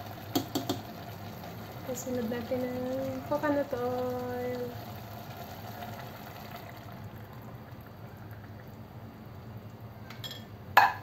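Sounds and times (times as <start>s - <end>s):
liquid pouring into a pot: 0.0s - 8.9s.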